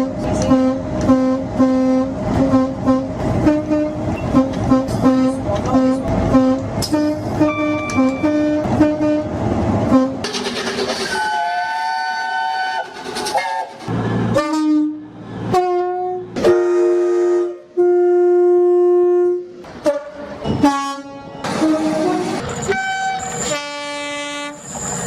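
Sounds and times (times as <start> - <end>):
train air horns: 0.0 - 9.3, 9.9 - 10.3, 11.0 - 24.8
passing train rumble: 0.0 - 25.0.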